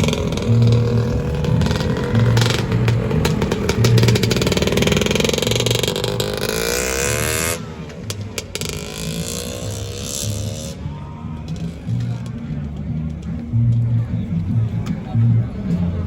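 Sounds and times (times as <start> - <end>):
scooter engines accelerating: 0.0 - 16.0.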